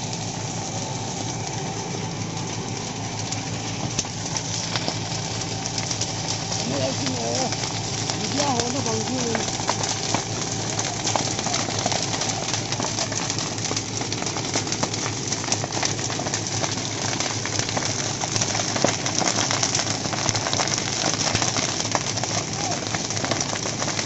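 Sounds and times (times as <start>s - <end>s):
brush fire crackling and popping: 0.0s - 24.0s.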